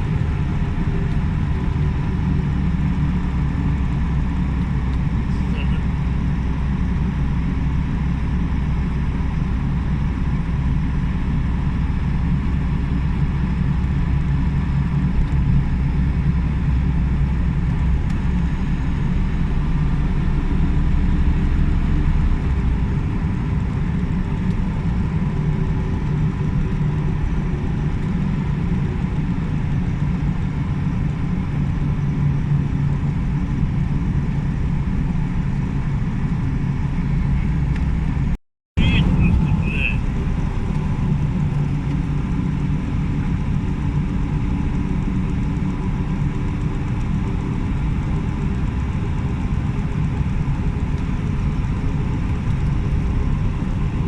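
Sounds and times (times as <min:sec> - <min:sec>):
motor vehicle low rumble: 0:00.0 - 0:54.0.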